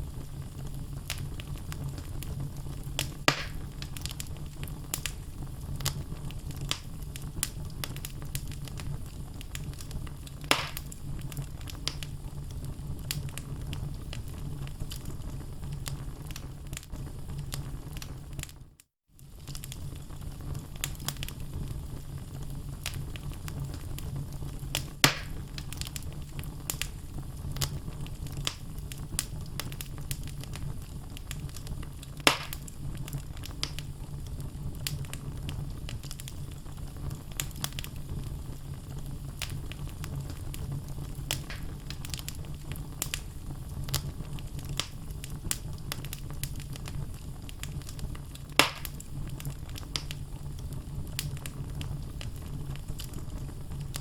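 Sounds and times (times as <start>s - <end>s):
loud pops from fire: 0.0s - 18.6s, 19.2s - 54.0s
crackles from burning logs: 0.0s - 54.0s
low rumble of flames: 0.0s - 54.0s.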